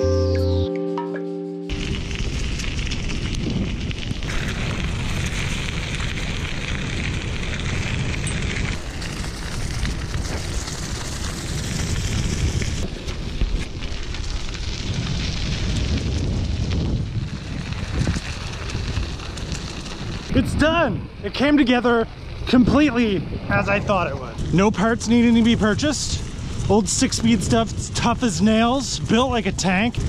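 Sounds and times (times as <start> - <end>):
bicycle tyres crunching on gravel: 1.7 - 20.6, 24.4 - 30.0
wind rumbling on microphone: 1.7 - 30.0.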